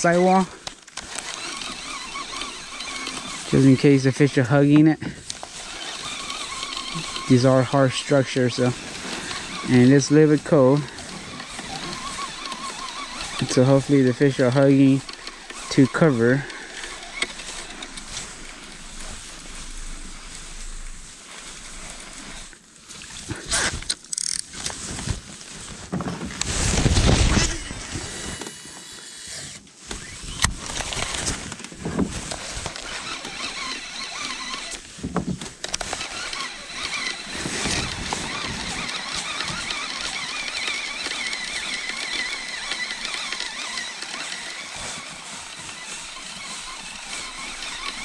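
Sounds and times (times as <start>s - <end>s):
fishing reel whirring: 0.0s - 4.7s, 5.3s - 24.6s, 26.7s - 31.5s, 32.3s - 35.0s, 35.6s - 48.0s.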